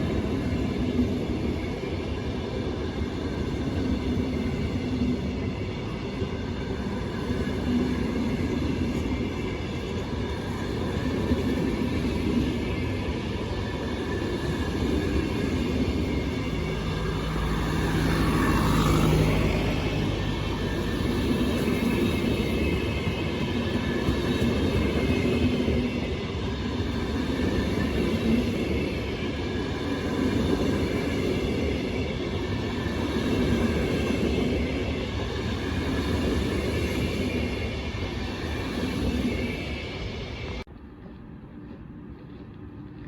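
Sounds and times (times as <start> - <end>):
train rumbling past: 0.0 - 43.0.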